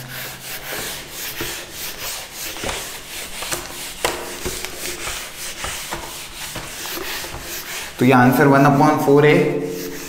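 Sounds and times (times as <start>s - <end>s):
duster wiping whiteboard: 0.0s - 10.0s.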